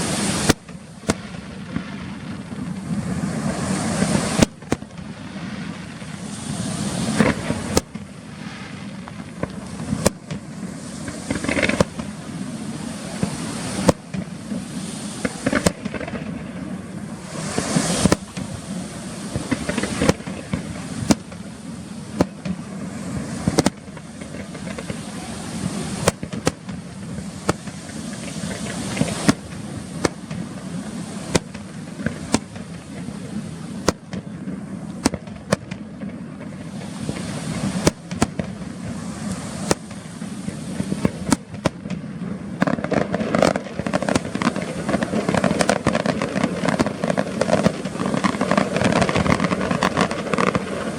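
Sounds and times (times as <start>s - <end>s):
firework shells bursting: 0.0s - 16.5s, 17.2s - 34.4s, 35.0s - 50.9s
crackling and rumbling fireworks: 0.0s - 50.9s.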